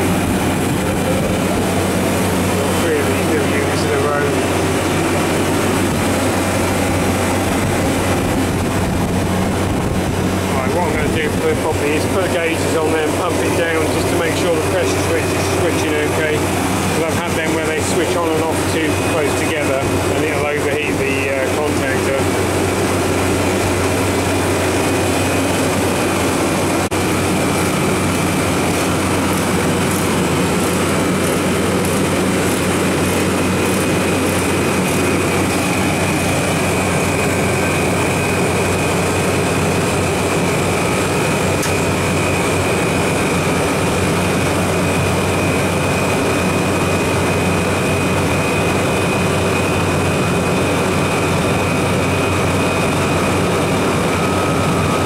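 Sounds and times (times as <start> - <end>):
compressor humming: 0.0 - 55.0
condenser fan rushing: 0.0 - 55.0.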